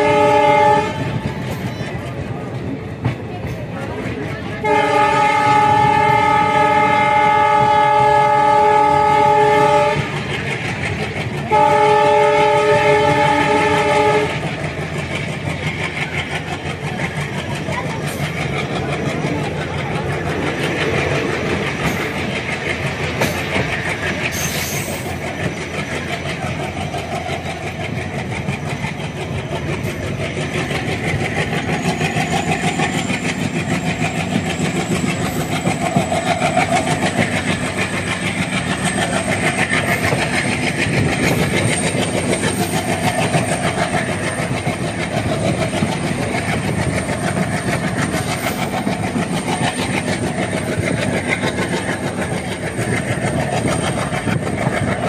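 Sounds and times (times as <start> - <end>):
train rumbling at speed: 0.0 - 55.0
wheels clacking over rail joints: 0.0 - 55.0.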